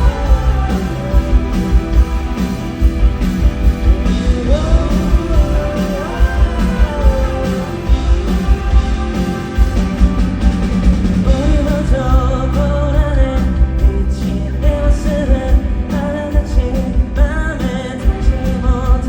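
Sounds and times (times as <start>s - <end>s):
man singing: 0.0s - 3.2s, 3.8s - 9.6s, 11.3s - 19.0s
live pop-rock band: 0.0s - 19.0s.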